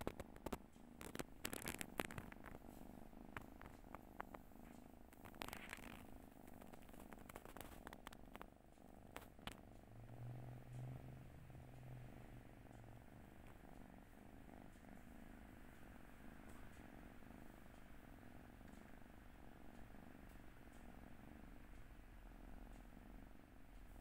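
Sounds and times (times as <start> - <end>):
kitten purring: 0.0 - 24.0
faint clicks: 3.3 - 24.0.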